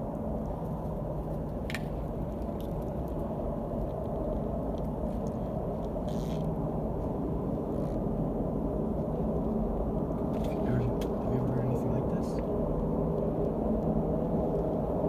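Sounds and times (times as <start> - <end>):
low rumbling drone from sky: 0.0 - 15.0.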